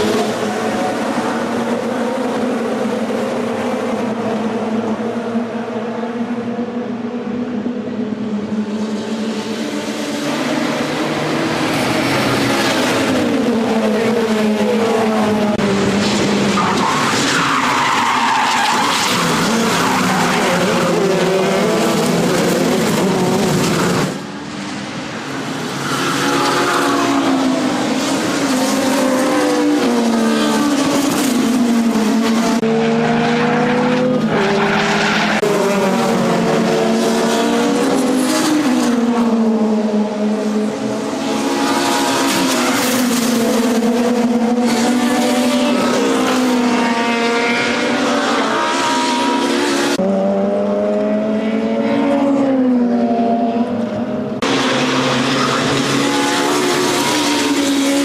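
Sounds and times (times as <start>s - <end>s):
race car engines revving past: 0.0s - 58.0s.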